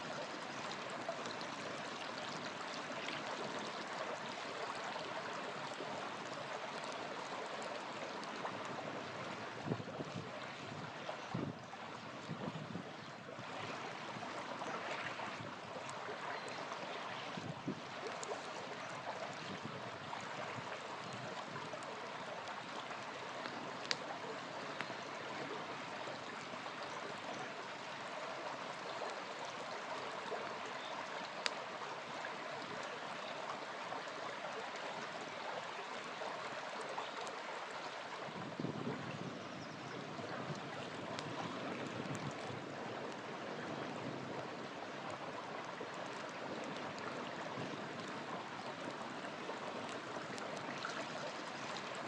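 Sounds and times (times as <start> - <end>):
campfire crackles: 0.0 - 52.0
small river flowing: 0.0 - 52.0.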